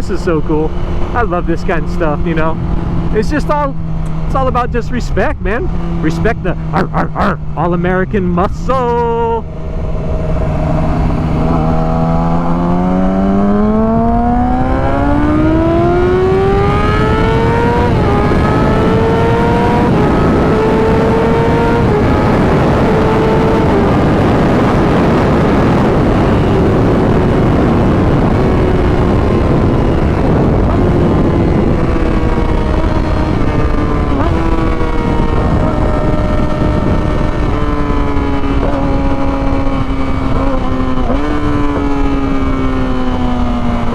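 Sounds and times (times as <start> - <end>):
gear changes: 0.0 - 43.9
motorcycle engine accelerating: 0.0 - 43.9
wind rushing: 0.0 - 43.9.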